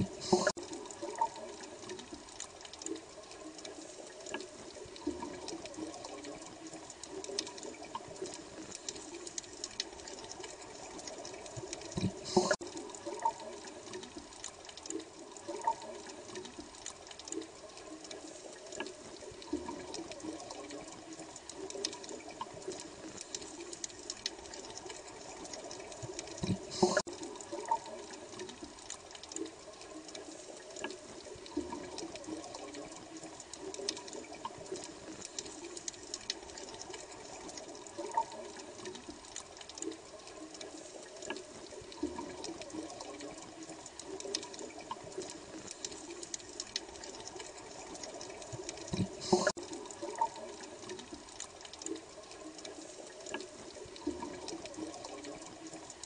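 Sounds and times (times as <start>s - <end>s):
bubbling water with pops: 0.0s - 56.0s.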